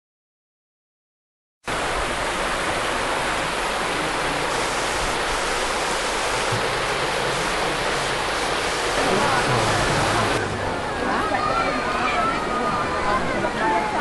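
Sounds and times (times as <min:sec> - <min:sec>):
river rushing over stones: 0:01.7 - 0:14.0.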